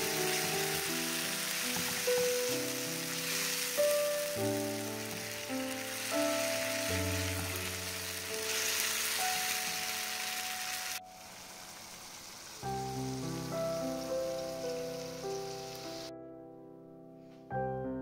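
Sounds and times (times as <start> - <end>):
tomatoes sizzling in a frying pan: 0.0 - 16.1
background music of sustained notes: 0.0 - 18.0.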